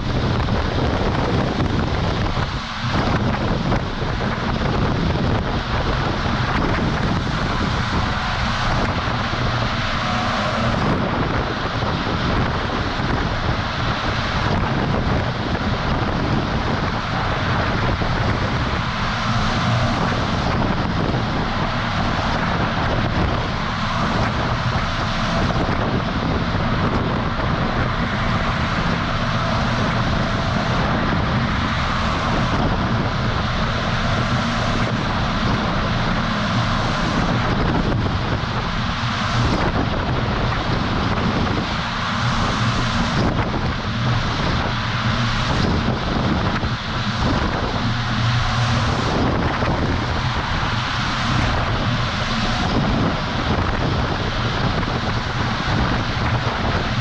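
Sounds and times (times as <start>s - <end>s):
truck engine drone: 0.0s - 57.0s
wind and road noise: 0.0s - 57.0s.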